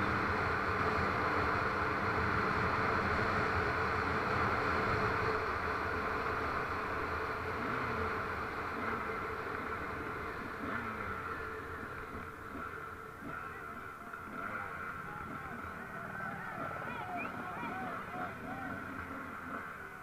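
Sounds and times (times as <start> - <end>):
dirt road noise: 0.0 - 20.0
vehicle engine droning: 0.0 - 20.0
wind: 0.0 - 20.0.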